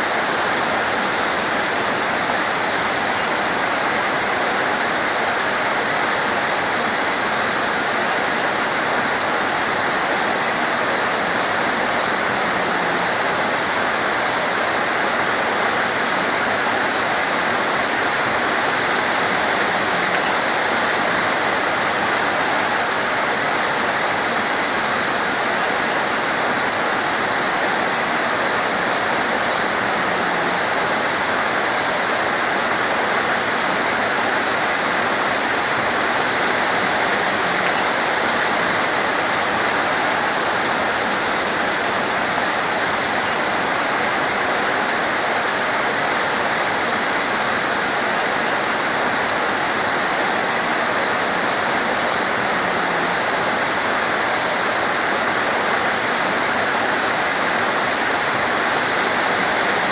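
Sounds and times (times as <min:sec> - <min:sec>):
torrential rain hissing: 0:00.0 - 0:59.9.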